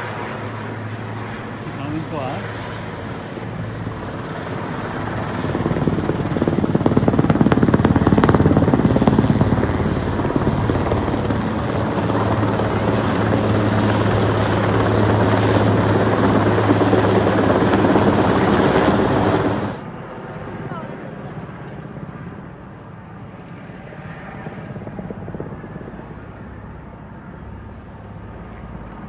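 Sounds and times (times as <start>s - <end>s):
helicopter rotor and turbine: 0.0s - 29.0s.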